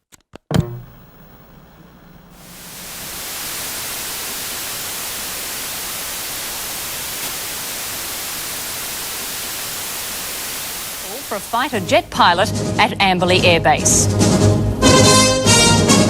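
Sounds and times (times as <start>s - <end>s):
white noise static: 0.6s - 14.0s.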